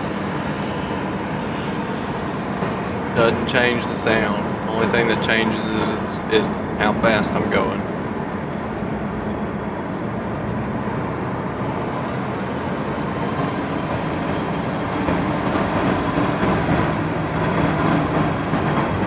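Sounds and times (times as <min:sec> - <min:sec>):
car road noise: 0:00.0 - 0:19.0.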